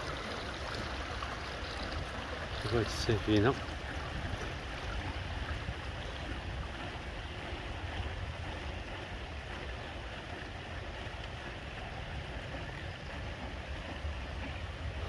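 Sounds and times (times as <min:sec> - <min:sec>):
running water: 0:00.0 - 0:15.0
wind buffeting microphone: 0:00.9 - 0:15.0.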